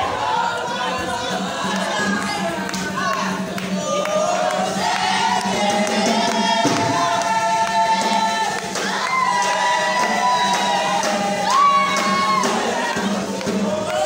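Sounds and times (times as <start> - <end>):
crowd noise: 0.0 - 14.0
group of voices singing: 0.0 - 14.0.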